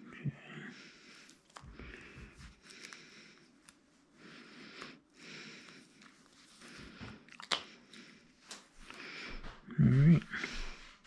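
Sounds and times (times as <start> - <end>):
close hissy breathing: 0.5 - 11.0.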